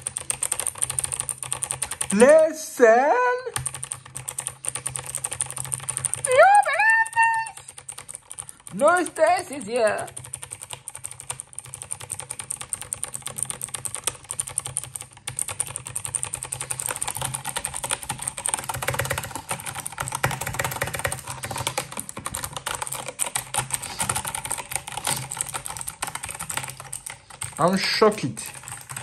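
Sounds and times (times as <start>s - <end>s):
fast typing on clicky keyboard: 0.0s - 29.0s.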